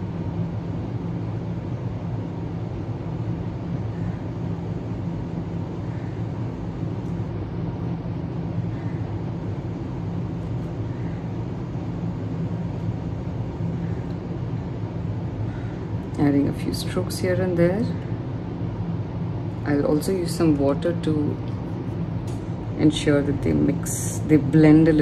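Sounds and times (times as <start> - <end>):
steady low machine hum with hiss: 0.0 - 25.0.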